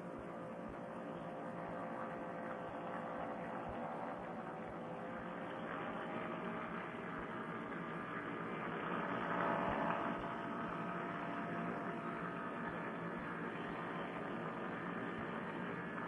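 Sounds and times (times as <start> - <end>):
muffled engine drone: 0.0 - 16.0.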